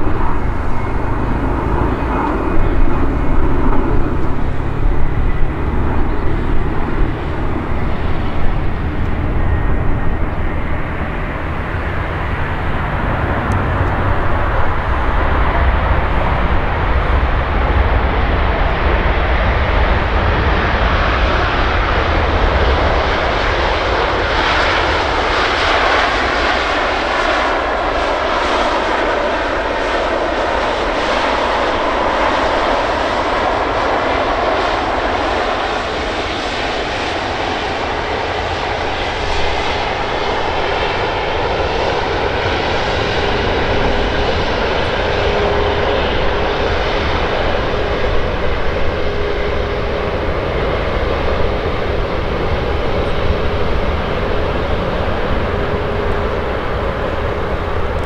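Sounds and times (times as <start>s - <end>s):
jetliner engines roaring: 0.0s - 58.0s.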